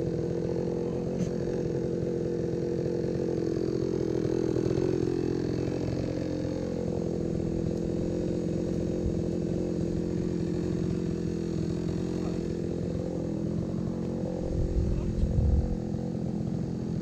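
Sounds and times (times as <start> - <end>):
small gasoline engine running: 0.0 - 17.0.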